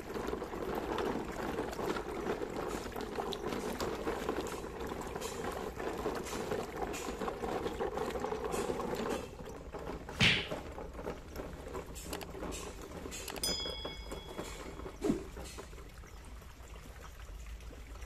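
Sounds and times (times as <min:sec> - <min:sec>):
stream water gurgling and splashing: 0:00.0 - 0:18.0.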